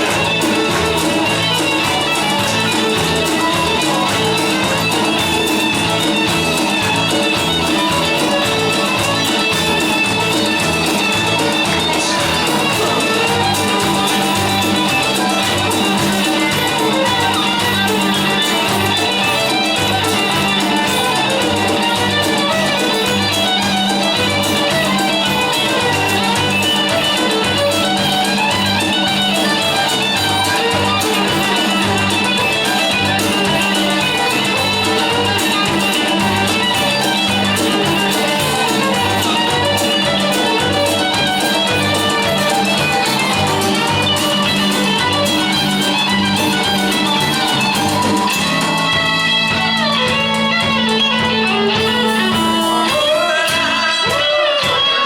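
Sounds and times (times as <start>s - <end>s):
bass and drum beat: 0.0s - 55.0s
guitars: 0.0s - 55.0s
violin melody: 0.0s - 55.0s.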